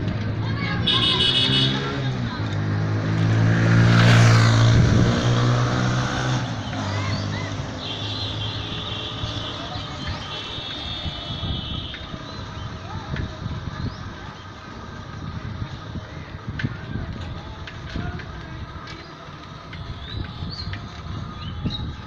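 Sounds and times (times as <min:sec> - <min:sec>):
passing traffic rush: 0:00.0 - 0:22.0.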